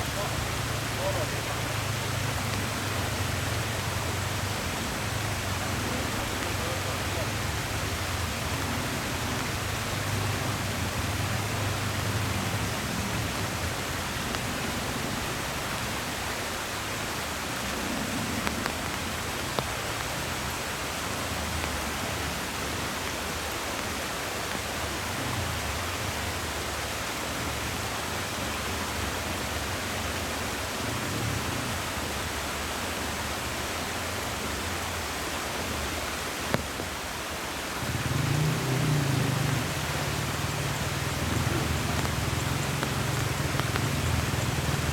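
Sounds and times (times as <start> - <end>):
heavy rain hissing: 0.0 - 44.9.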